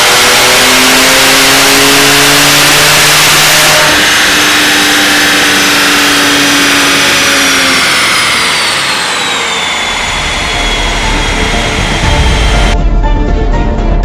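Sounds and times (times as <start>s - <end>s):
wheel and rollers whine: 0.0s - 12.8s
car engine: 0.0s - 13.8s.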